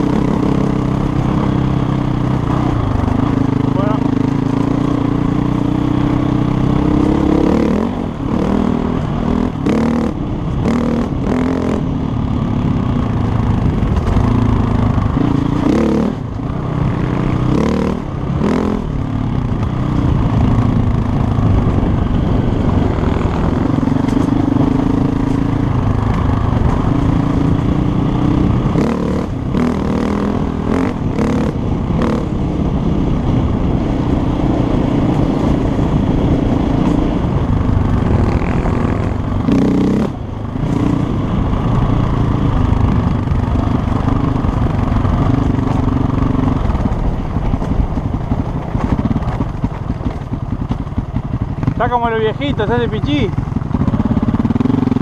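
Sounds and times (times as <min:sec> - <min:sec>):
motorcycle clatter: 0:00.0 - 0:32.5, 0:42.6 - 0:55.0
dirt bike engine revving: 0:00.0 - 0:33.0, 0:33.8 - 0:43.0, 0:48.9 - 0:55.0.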